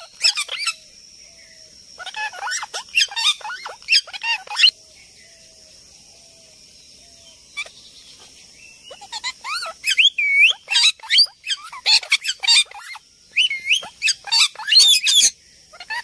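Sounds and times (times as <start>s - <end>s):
songbird chattering: 0.0s - 5.6s, 7.0s - 16.0s.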